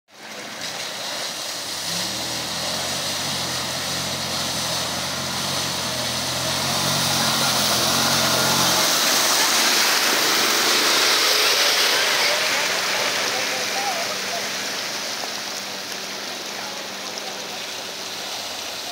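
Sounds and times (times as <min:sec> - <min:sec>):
creek water rushing: 0:00.1 - 0:18.9
vehicle engine running: 0:00.1 - 0:18.9.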